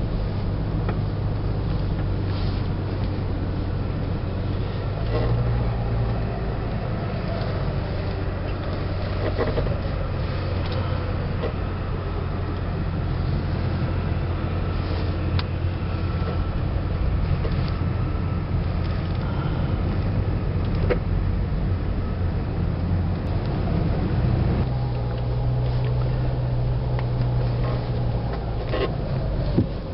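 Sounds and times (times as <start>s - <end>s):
road noise: 0.0s - 29.9s
vehicle engine drone: 0.0s - 29.9s.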